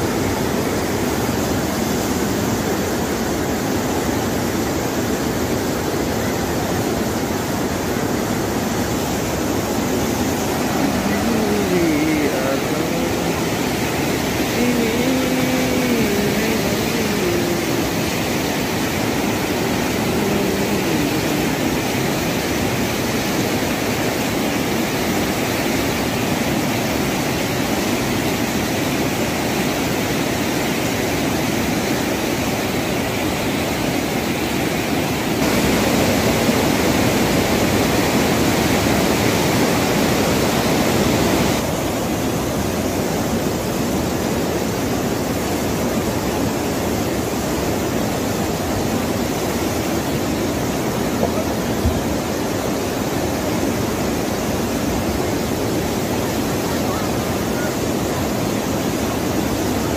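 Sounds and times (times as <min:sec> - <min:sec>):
floodwater flowing: 0:00.0 - 0:59.9
heavy rain: 0:00.0 - 0:59.9.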